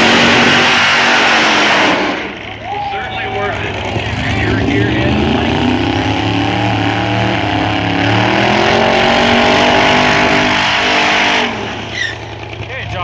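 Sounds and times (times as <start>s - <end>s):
diesel engines at full throttle: 0.0s - 13.0s.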